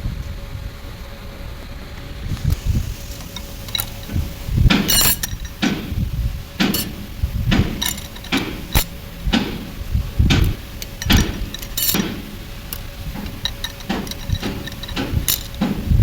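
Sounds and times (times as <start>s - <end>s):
metal parts clanking: 2.5s - 16.0s.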